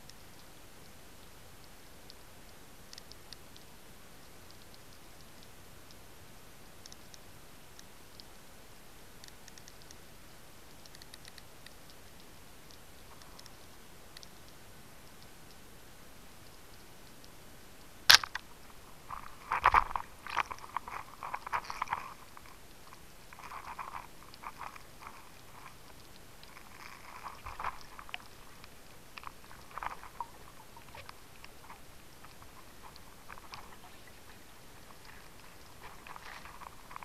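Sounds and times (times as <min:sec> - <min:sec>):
crackly clicking underwater: 0:00.0 - 0:08.5, 0:09.1 - 0:15.7, 0:16.3 - 0:37.0.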